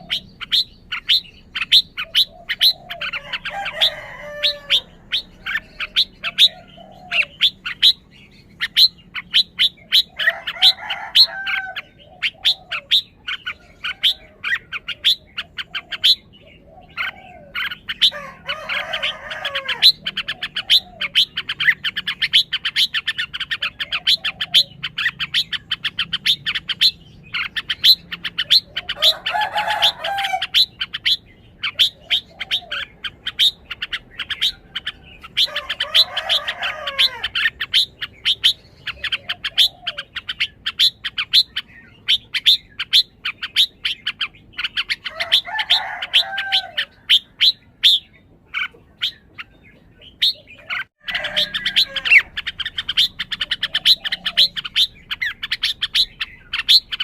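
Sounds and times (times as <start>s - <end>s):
bird singing warbling phrases: 0.0s - 57.0s.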